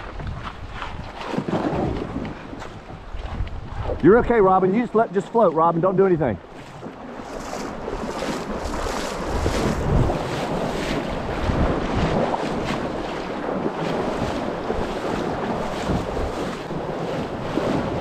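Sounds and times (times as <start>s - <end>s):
river water rushing and splashing: 0.0s - 18.0s
wind buffeting microphone: 0.0s - 18.0s.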